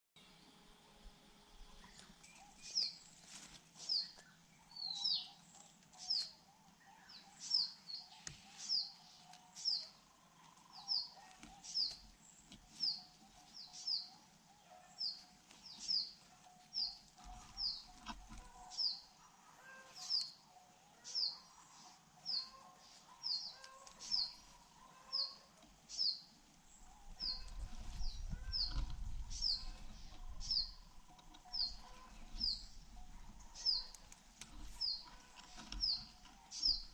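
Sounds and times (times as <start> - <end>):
bird chirping: 3.8 - 36.9.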